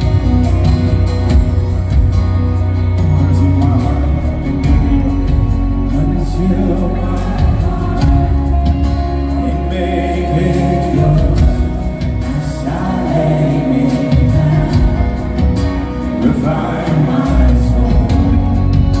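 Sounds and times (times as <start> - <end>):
low bass notes: 0.0 - 19.0
gospel group singing: 3.0 - 19.0.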